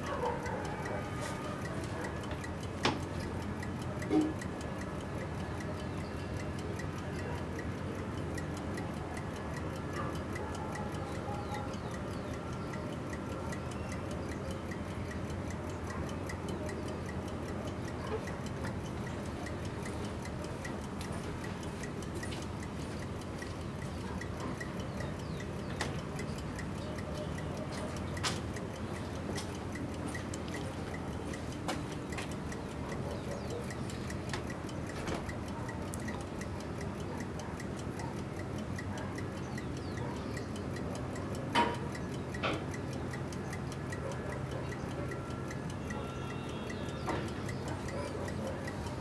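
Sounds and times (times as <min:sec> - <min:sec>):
rapid even ticking: 0:00.0 - 0:49.0.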